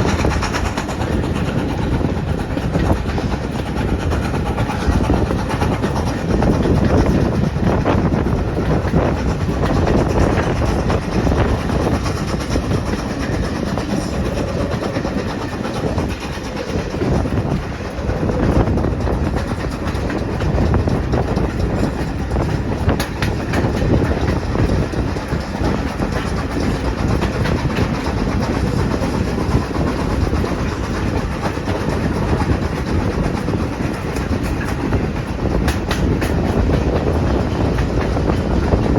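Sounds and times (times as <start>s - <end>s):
train rumbling: 0.0s - 38.9s
wheels clacking over rail joints: 0.0s - 38.9s.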